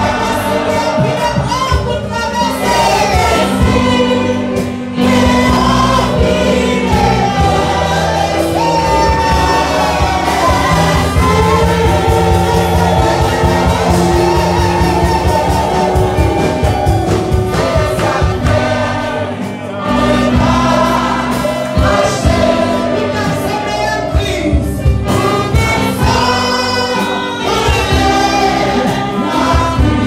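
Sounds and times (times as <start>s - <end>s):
choir singing worship song: 0.0s - 30.0s
wind and brass band playing: 0.0s - 30.0s.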